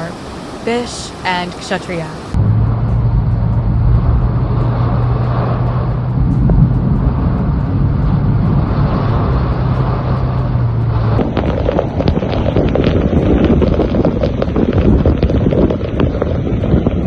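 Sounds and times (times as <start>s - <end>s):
low engine hum: 0.0s - 17.0s
wind and rain buffeting microphone: 0.0s - 17.0s.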